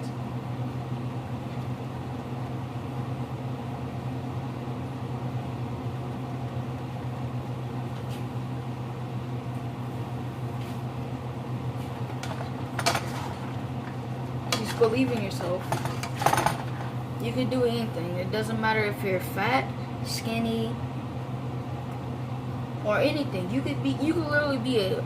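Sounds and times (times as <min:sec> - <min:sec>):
appliance or fan humming: 0:00.0 - 0:25.0.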